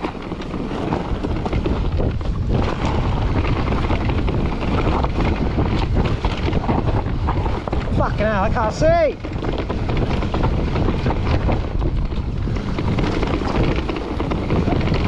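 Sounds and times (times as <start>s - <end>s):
bike rattling over bumps: 0.0s - 15.0s
bike tyres rolling on dirt: 0.0s - 15.0s
wind on microphone: 0.0s - 15.0s.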